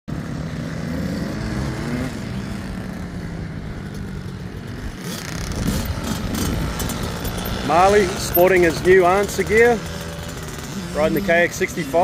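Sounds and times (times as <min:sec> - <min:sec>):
two-stroke motocross bike engines: 0:00.1 - 0:12.0.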